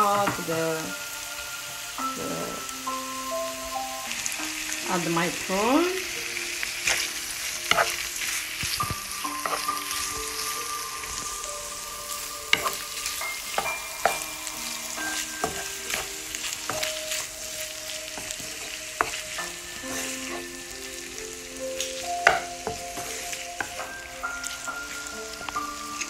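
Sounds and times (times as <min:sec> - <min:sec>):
prawns sizzling in oil: 0:00.0 - 0:26.0.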